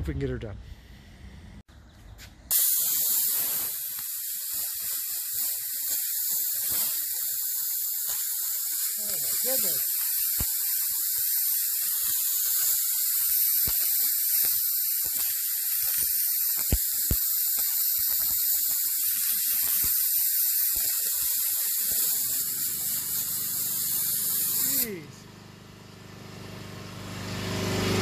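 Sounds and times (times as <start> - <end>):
steady high hiss: 2.5 - 25.1.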